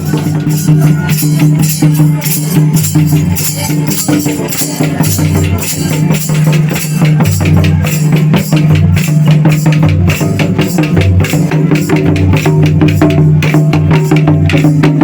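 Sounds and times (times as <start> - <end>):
fast dense drumming: 0.0 - 15.0.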